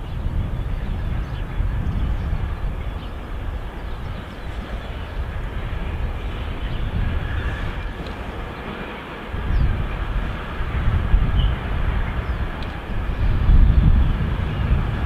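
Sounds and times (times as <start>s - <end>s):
distant locomotive rumble: 0.0s - 15.0s.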